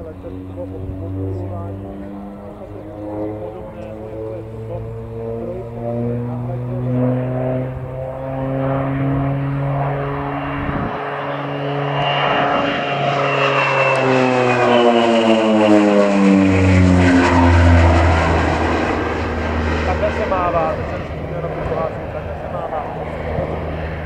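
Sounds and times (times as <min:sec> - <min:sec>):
turboprop aircraft droning: 0:00.0 - 0:24.0.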